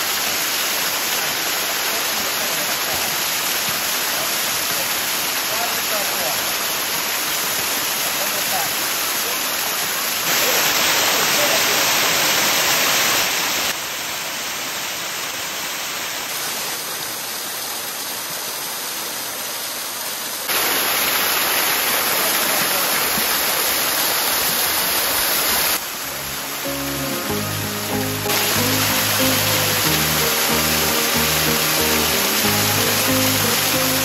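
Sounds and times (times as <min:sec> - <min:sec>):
waterfall rushing: 0:00.0 - 0:13.8, 0:20.4 - 0:34.0.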